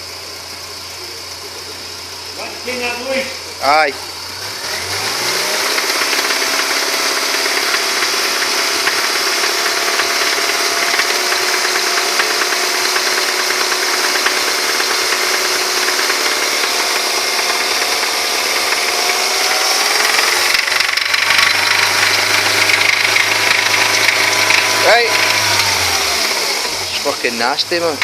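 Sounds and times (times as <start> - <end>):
car engine revving steadily: 0.0 - 28.0
rapid engine knock: 5.5 - 28.0.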